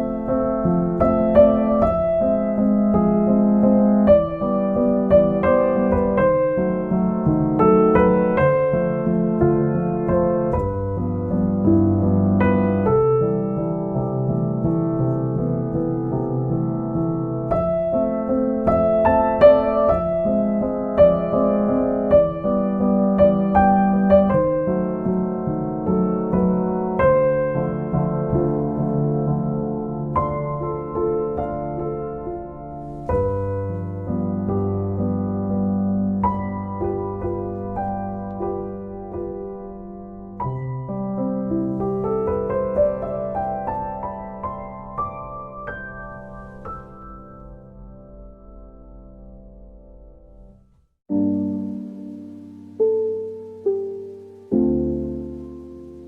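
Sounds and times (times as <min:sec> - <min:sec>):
slow solo piano music: 0:00.0 - 0:56.0.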